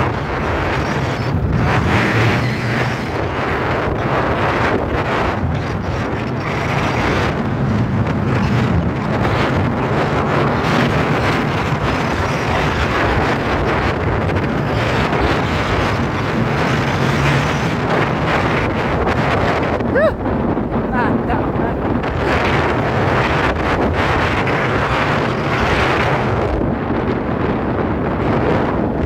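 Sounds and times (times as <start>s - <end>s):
wind noise on microphone: 0.0s - 29.0s.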